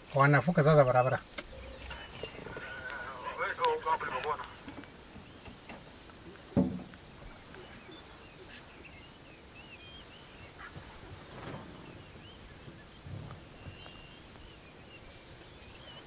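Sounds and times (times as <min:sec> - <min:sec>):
faint outdoor ambience: 0:00.0 - 0:16.0
small bird chirping: 0:01.3 - 0:16.0.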